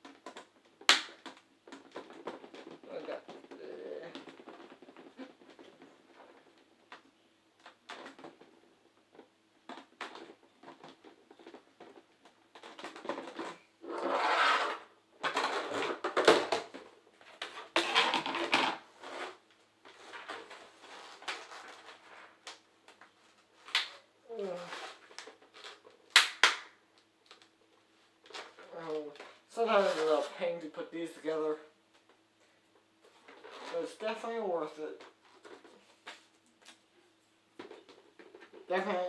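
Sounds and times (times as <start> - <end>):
plastic rubbing and rustling: 0.0 - 32.2, 32.8 - 39.0.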